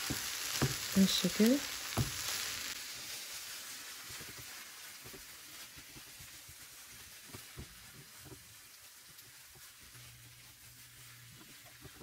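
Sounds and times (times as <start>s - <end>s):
faint sizzle of frying: 0.0s - 12.0s.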